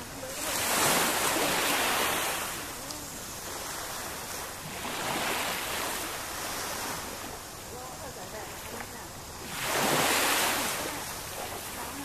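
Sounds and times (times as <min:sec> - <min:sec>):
small waves washing onto sand: 0:00.0 - 0:12.0.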